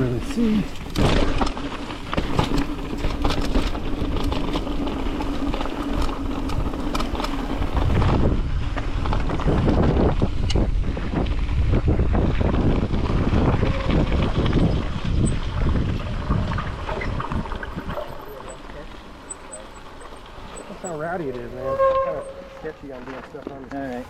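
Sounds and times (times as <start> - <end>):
wind buffeting microphone: 0.0 - 22.6
bike clattering over bumps: 0.0 - 24.0
bike tyre roar: 0.0 - 24.0.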